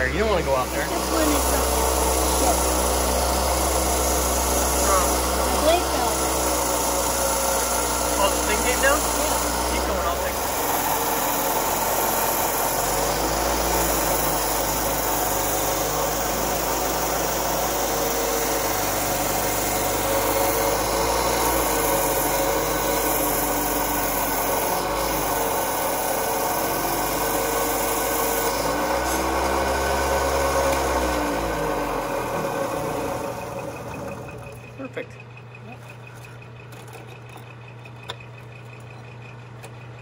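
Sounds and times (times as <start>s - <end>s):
band saw grinding through glass: 0.0s - 34.9s.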